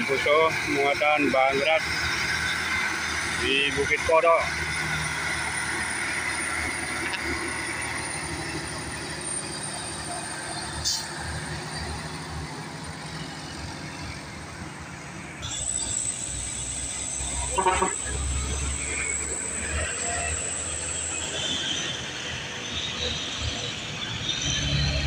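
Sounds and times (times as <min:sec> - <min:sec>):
road traffic: 0:00.0 - 0:25.0
truck diesel engine under load: 0:00.0 - 0:25.0.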